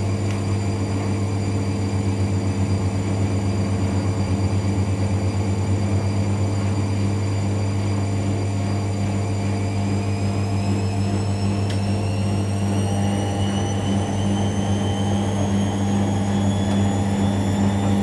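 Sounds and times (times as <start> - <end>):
washing machine running: 0.0 - 18.0
motor whine rising in pitch: 0.9 - 18.0.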